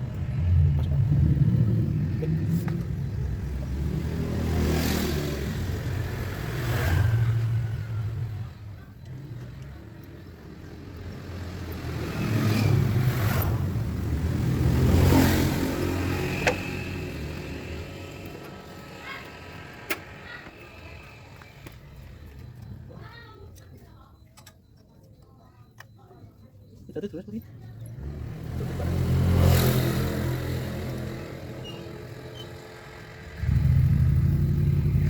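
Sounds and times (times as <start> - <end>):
vehicle engine rumble: 0.0 - 26.0, 27.0 - 35.0.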